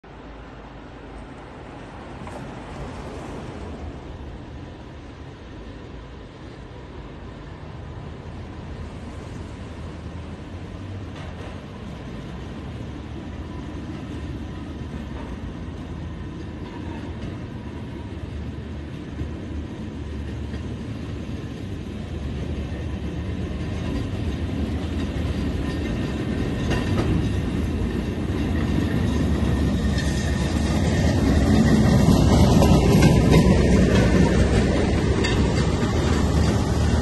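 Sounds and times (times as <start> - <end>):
rail motorcar engines: 0.0 - 37.0
wheels rolling on track: 6.2 - 37.0.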